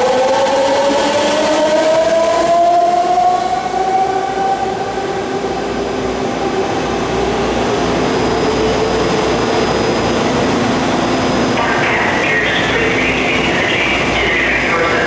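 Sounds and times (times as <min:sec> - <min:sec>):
electric train whine: 0:00.0 - 0:15.0
train hum and rumble: 0:00.0 - 0:15.0.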